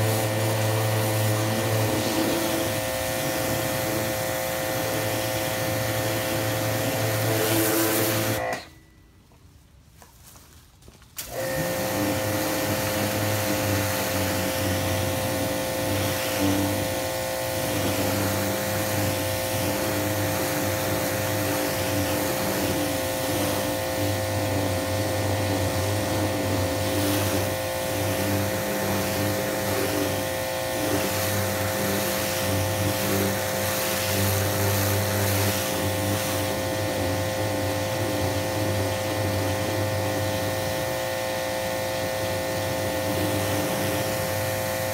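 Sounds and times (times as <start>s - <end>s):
water jet hissing on wood: 0.0s - 8.5s, 11.2s - 44.9s
pressure washer motor humming: 0.0s - 8.8s, 11.2s - 44.9s.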